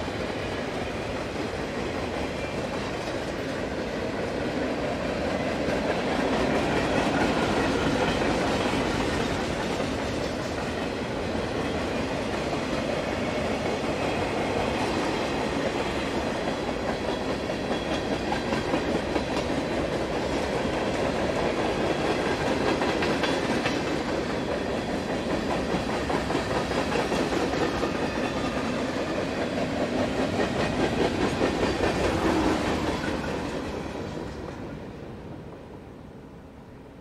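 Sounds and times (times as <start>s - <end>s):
train wheels clickety-clack: 0.0s - 35.8s.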